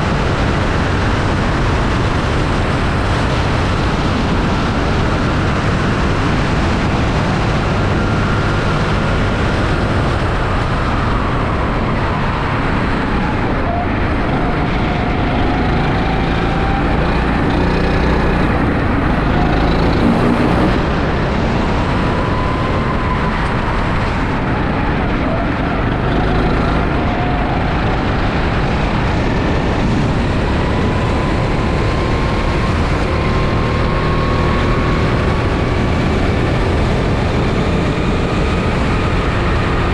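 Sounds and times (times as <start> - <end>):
dense rush of noise: 0.0 - 39.9
go-kart engine running hard: 0.0 - 39.9.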